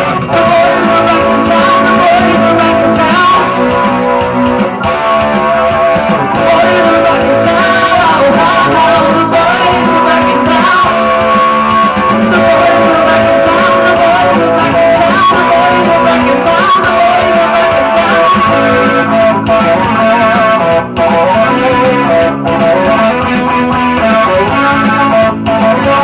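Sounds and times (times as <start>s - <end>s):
electric guitar: 0.0s - 26.0s
man singing into a microphone: 0.0s - 26.0s.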